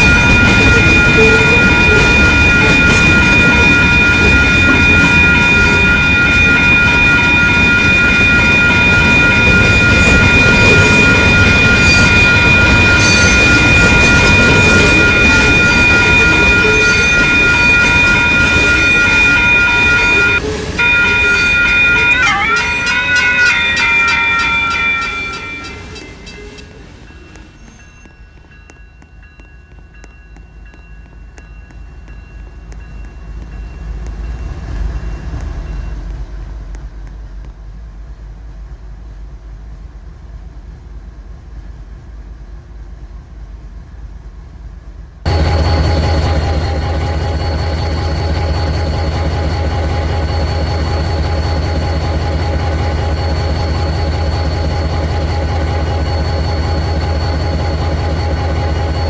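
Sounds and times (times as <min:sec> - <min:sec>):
locomotive engine drone: 0:00.0 - 0:59.0
train rolling past: 0:00.0 - 0:59.0.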